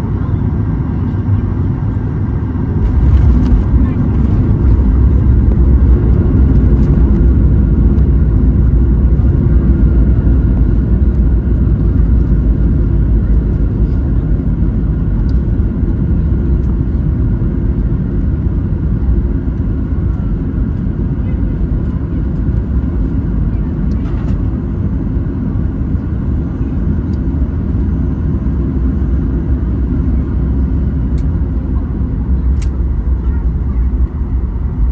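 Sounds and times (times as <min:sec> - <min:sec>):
airplane cabin rumble: 0:00.0 - 0:34.9.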